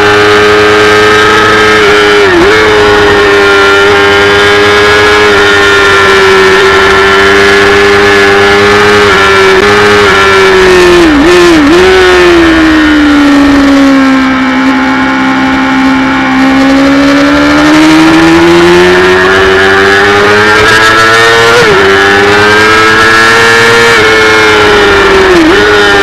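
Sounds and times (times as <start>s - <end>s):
motorcycle engine screaming at high revs: 0.0s - 26.0s.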